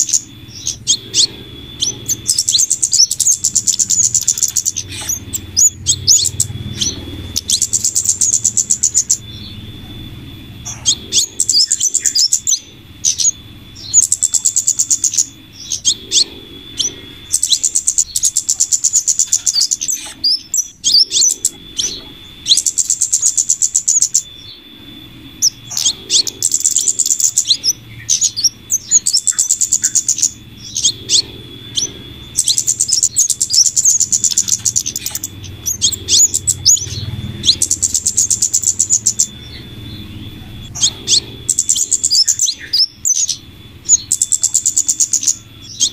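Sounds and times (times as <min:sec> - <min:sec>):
rapid high bird trills: 0:00.0 - 0:45.9
sharp high bird chips: 0:00.0 - 0:45.9
steady high-pitched tone: 0:00.0 - 0:45.9.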